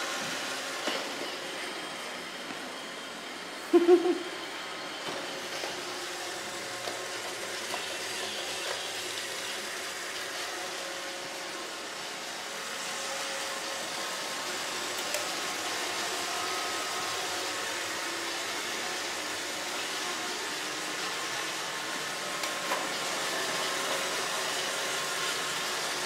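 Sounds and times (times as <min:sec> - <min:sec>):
robot vacuum whirring: 0:00.0 - 0:26.0.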